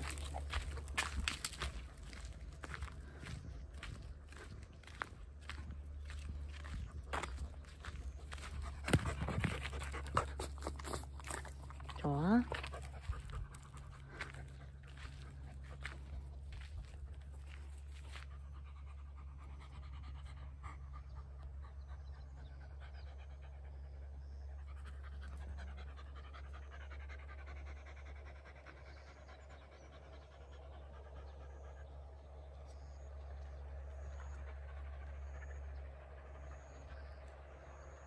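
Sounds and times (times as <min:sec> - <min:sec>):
dog panting: 0:00.0 - 0:32.5
low hum: 0:00.0 - 0:38.0.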